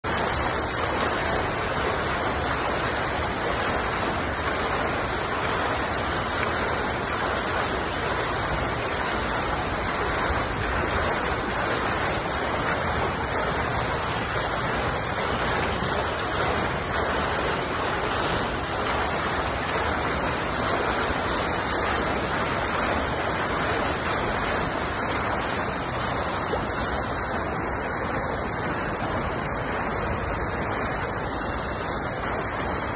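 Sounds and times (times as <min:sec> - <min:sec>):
fountain water splashing: 0:00.0 - 0:32.9.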